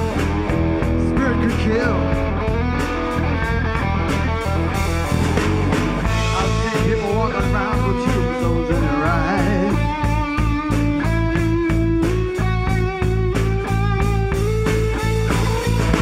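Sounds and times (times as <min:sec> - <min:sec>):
bass: 0:00.0 - 0:16.0
electric guitar: 0:00.0 - 0:16.0
steady drum beat: 0:00.0 - 0:16.0.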